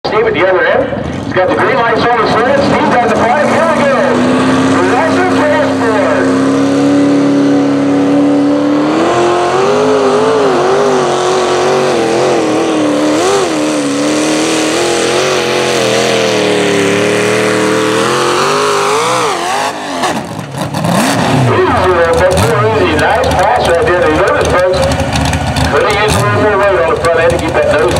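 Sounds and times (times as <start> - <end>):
engine revving under load: 1.0 - 27.9.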